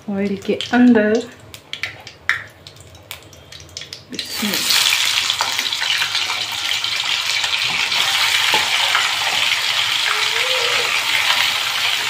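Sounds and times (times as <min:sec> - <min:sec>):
food sizzling in hot oil: 0:00.2 - 0:12.0.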